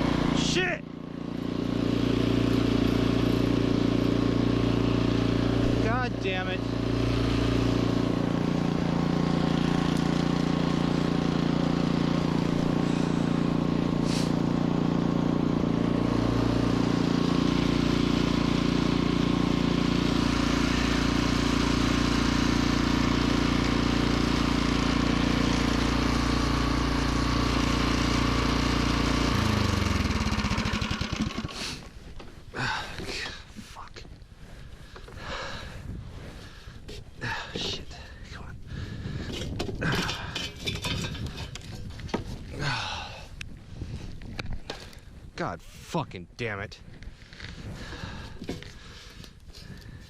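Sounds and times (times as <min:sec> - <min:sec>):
snowblower engine running: 0:00.0 - 0:33.5, 0:34.4 - 0:45.1, 0:46.9 - 0:50.0.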